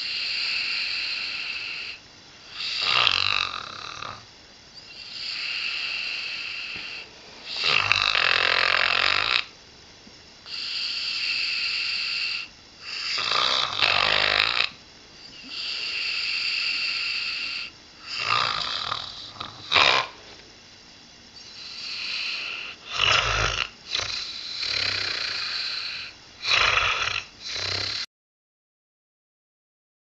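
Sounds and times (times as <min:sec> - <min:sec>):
dog snorting: 0:00.0 - 0:04.2, 0:04.8 - 0:09.5, 0:10.5 - 0:20.4, 0:21.4 - 0:28.1
dog snoring: 0:00.0 - 0:09.5, 0:10.4 - 0:20.2, 0:21.4 - 0:28.1.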